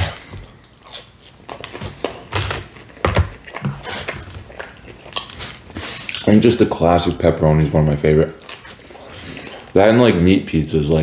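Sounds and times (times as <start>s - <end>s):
wet chewing: 0.0s - 9.8s.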